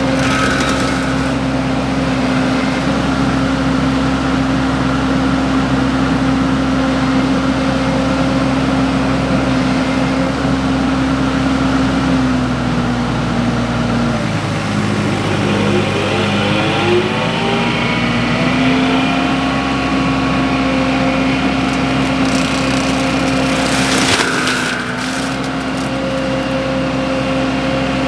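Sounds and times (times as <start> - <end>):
skid steer engine running mulcher: 0.0 - 28.0.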